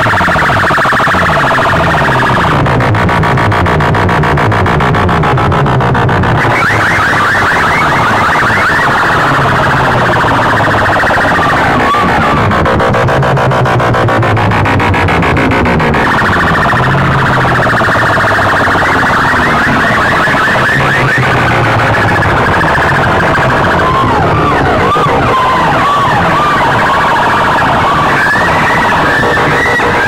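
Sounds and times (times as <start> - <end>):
low steady drone: 0.0 - 30.0
siren-like electronic sweeps: 0.0 - 30.0.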